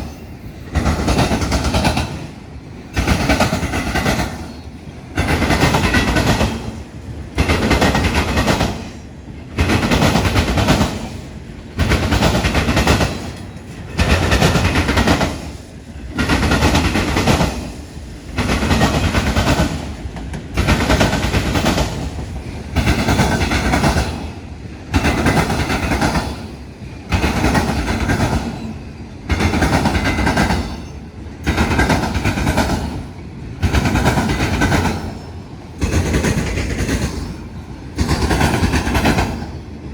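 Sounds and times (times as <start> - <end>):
train wheels clattering over crossing: 0.0 - 39.9.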